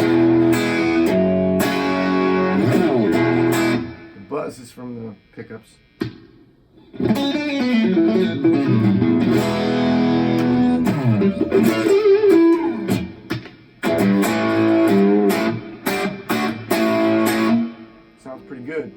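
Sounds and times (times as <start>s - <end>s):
electric guitar with reverb: 0.0s - 4.3s, 6.8s - 18.9s.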